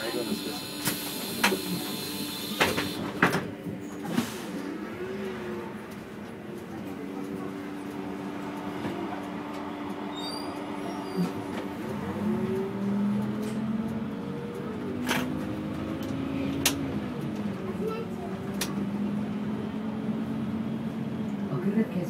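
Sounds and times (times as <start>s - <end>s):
bus engine whine: 0.0s - 22.0s.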